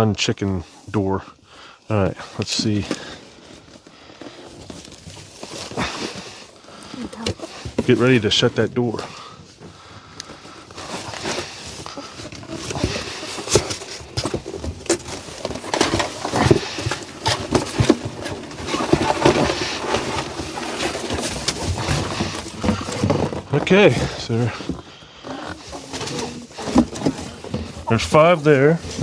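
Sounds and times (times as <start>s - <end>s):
knocks and scuffles: 2.6s - 29.0s.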